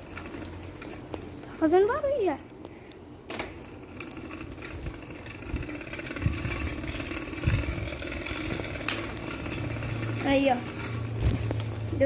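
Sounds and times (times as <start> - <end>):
can rattling against bicycle wheel: 0.0 - 1.3, 3.3 - 12.0.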